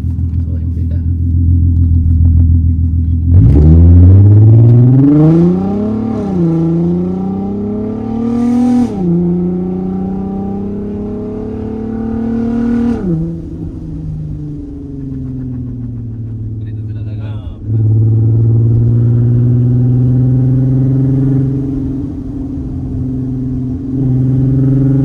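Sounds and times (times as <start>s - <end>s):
car engine revving and upshifting: 0.0s - 25.0s.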